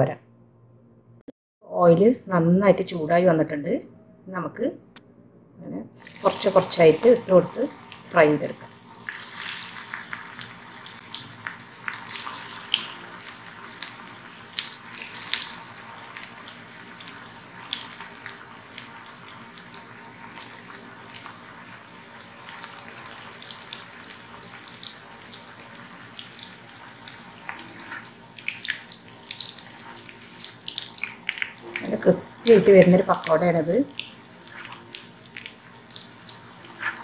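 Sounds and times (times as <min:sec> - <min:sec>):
batter deep-frying in hot oil: 0:06.0 - 0:37.0.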